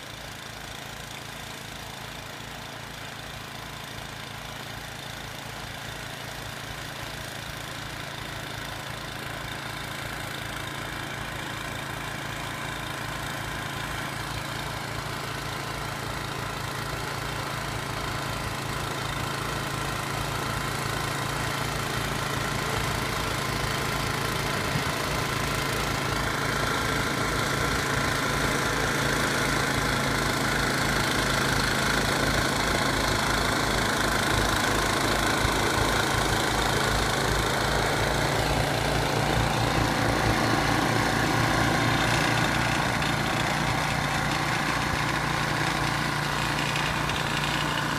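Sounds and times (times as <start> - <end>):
engine running with low pulsing: 0.0 - 47.9.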